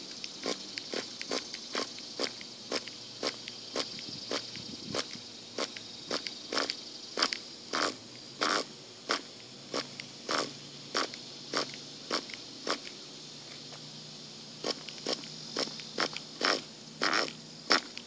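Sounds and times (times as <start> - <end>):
high-pitched hiss: 0.0 - 18.0.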